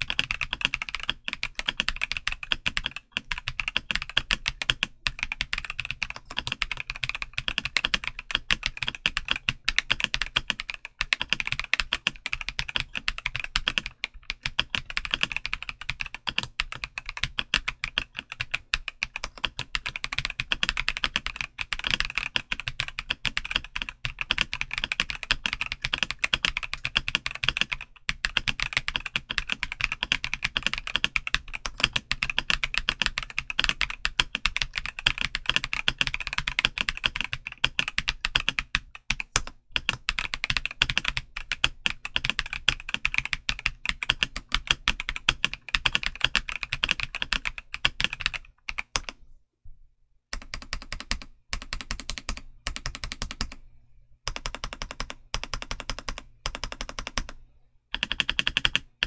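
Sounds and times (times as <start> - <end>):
mechanical keyboard typing: 0.0 - 49.2, 50.4 - 53.6, 54.3 - 59.0.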